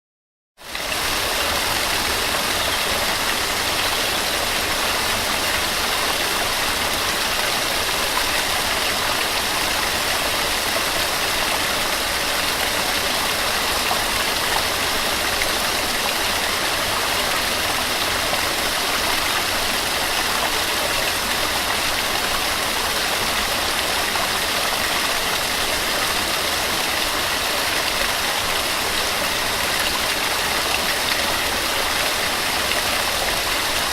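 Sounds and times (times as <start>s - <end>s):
small waterfall rushing: 0.6s - 33.9s.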